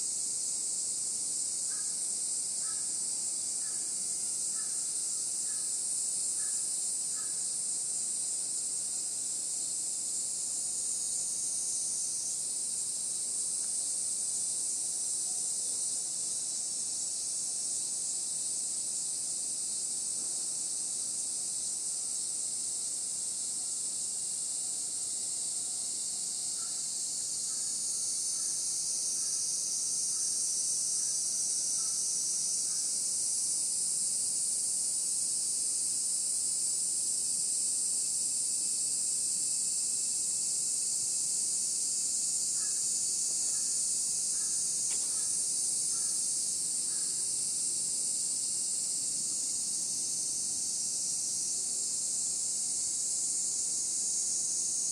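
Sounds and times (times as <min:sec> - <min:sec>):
chorus of insects: 0:00.0 - 0:54.9.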